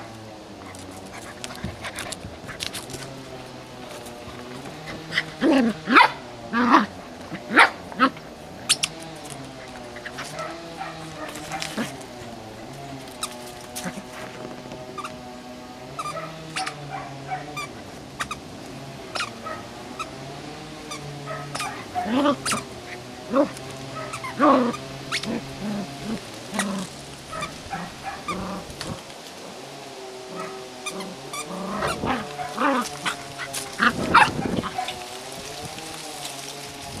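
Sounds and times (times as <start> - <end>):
puppies yipping: 0.0 - 14.2, 15.9 - 18.5, 19.1 - 20.2, 20.8 - 29.0, 30.3 - 36.1
steady low hum: 0.0 - 37.0.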